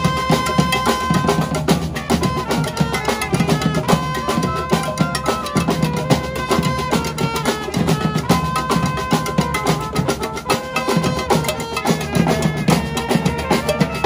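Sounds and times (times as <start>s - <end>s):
drums playing fast rhythm: 0.0s - 14.0s
trumpets holding long notes: 0.0s - 14.0s.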